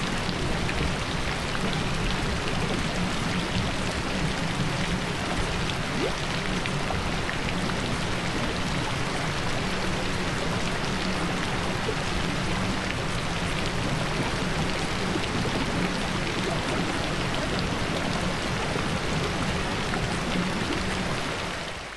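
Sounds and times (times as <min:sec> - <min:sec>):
steady rainfall hiss: 0:00.0 - 0:21.9.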